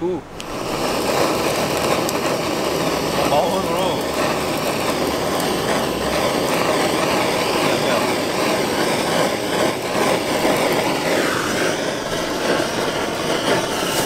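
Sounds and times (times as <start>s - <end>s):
blowtorch flame roaring: 0.0s - 14.0s.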